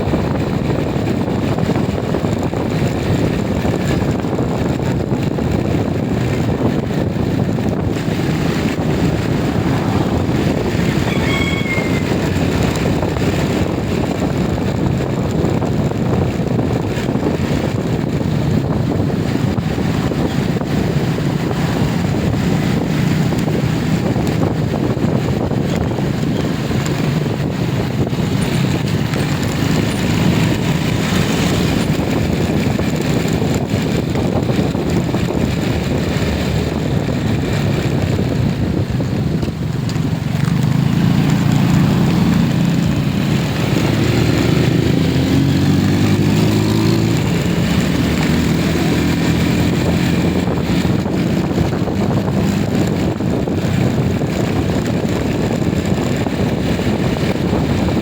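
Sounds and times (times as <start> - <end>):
vehicle rumble and road noise: 0.0 - 58.0
wind on microphone: 0.0 - 58.0.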